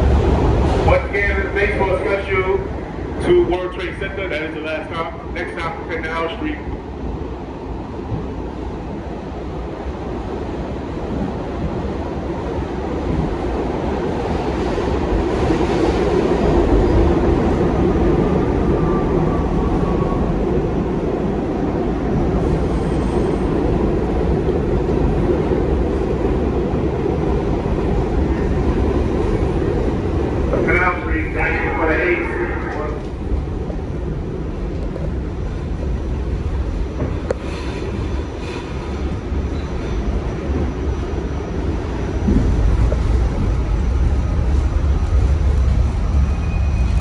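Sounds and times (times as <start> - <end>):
subway train wheels rumbling: 0.0 - 47.0.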